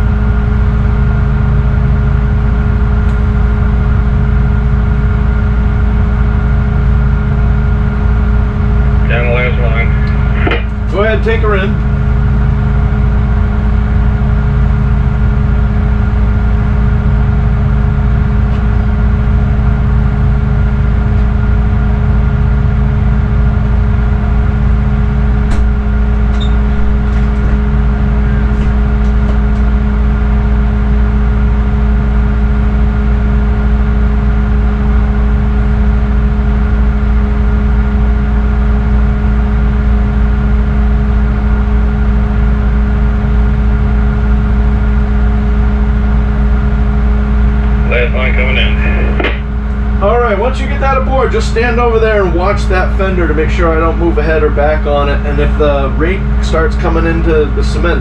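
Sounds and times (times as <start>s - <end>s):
diesel engines droning: 0.0s - 58.0s.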